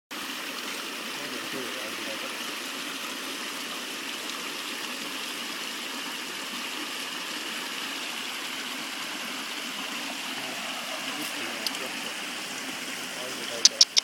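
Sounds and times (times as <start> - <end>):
river water rushing: 0.1 - 14.0.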